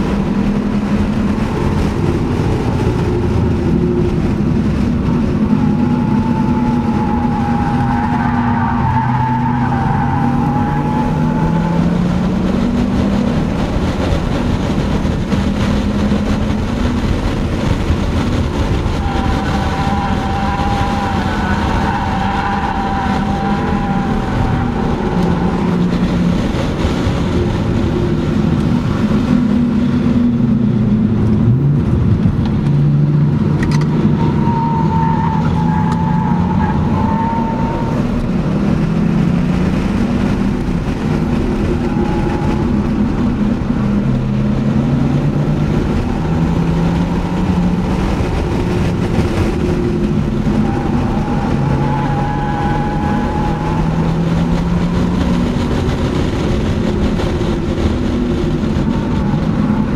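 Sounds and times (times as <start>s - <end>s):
car engine revving: 0.0s - 59.9s
tires squealing: 0.0s - 59.9s.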